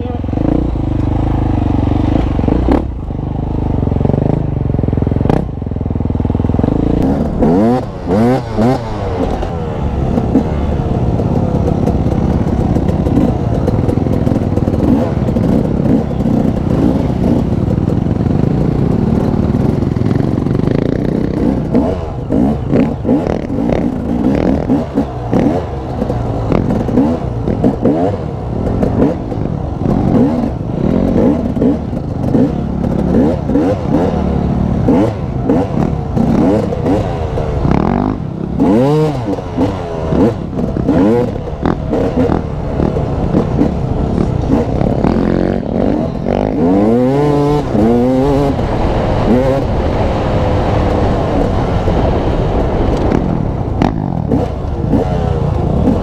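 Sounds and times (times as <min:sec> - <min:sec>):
motorcycle engine revving: 0:00.0 - 0:56.0
motorcycle rattling: 0:00.0 - 0:56.0.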